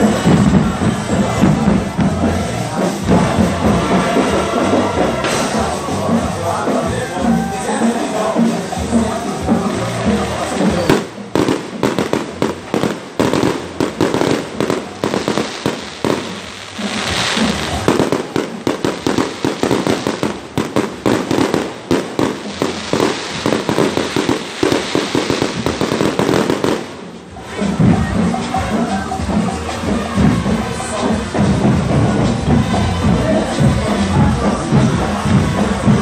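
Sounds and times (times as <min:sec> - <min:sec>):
fireworks bangs and crackling: 0:00.0 - 0:36.0.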